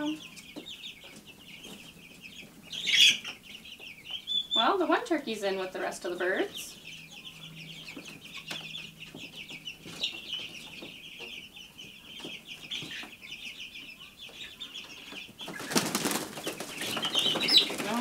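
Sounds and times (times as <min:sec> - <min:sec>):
chicks and poults peeping: 0:00.0 - 0:18.0.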